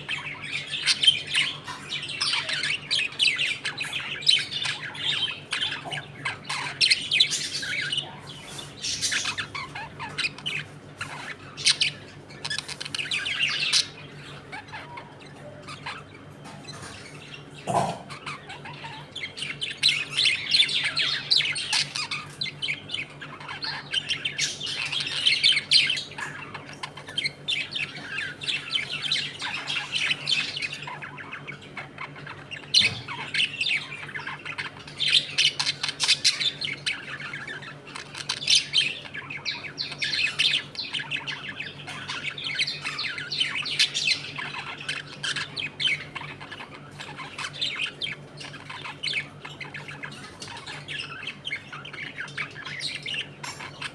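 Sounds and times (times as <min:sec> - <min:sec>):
budgerigars chattering and squawking: 0:00.0 - 0:53.9.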